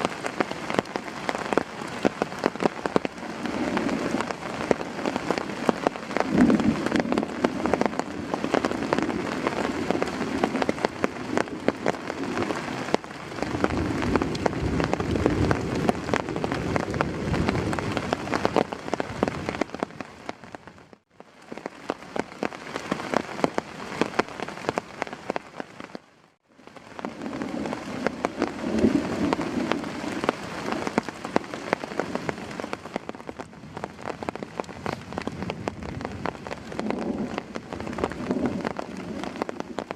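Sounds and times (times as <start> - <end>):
heavy rain falling: 0.0 - 39.9
raindrops ticking: 0.0 - 39.9.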